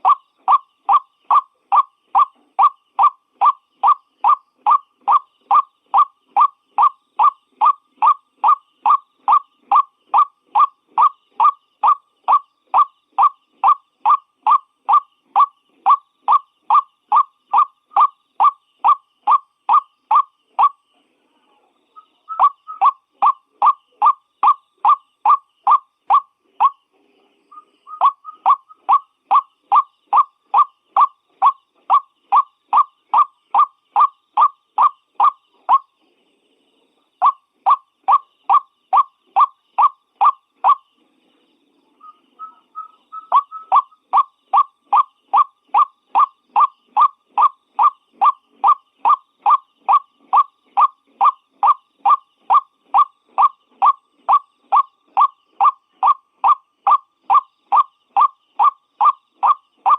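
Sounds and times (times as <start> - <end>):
waterhen calling repeated notes: 0.0 - 20.8, 22.0 - 26.8, 27.5 - 35.9, 37.2 - 40.9, 42.0 - 59.9
soft ragged bird calls: 0.0 - 59.9.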